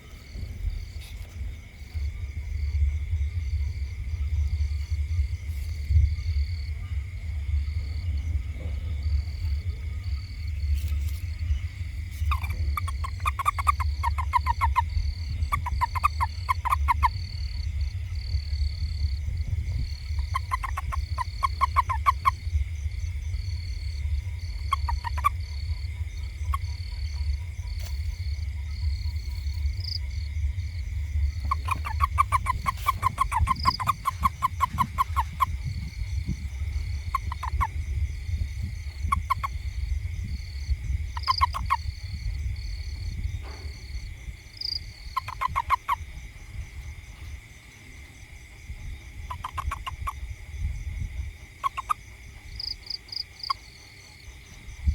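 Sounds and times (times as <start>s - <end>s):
low rumble: 0.0s - 52.8s
insects droning: 0.0s - 54.9s
toad croaking: 7.5s - 54.9s.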